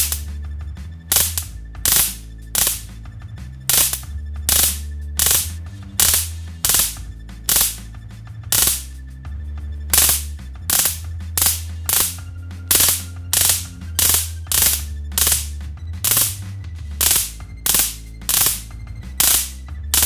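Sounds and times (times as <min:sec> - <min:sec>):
high-voltage spark discharges: 0:00.0 - 0:00.3, 0:01.1 - 0:02.9, 0:03.7 - 0:07.9, 0:08.5 - 0:09.0, 0:09.9 - 0:20.0.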